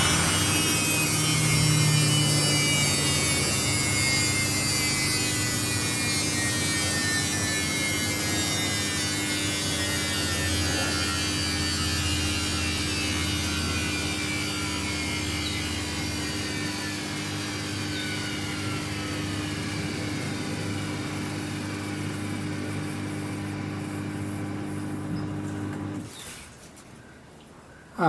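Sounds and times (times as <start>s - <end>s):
washing machine spinning: 0.0s - 10.6s, 11.2s - 26.1s.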